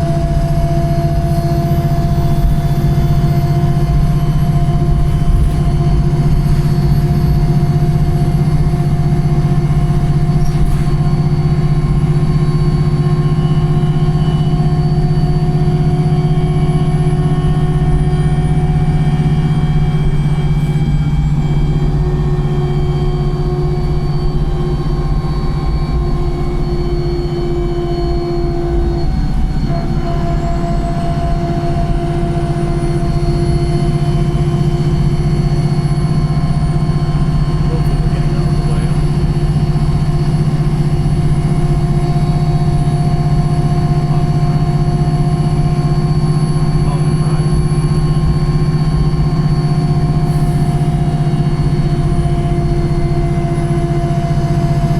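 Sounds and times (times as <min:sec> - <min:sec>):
bus drivetrain whine: 0:00.0 - 0:54.9
faint high whine: 0:00.0 - 0:54.9.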